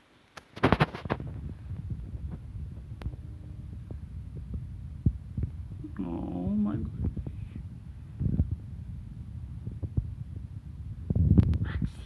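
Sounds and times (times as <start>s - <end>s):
cat purring: 0.8s - 12.0s.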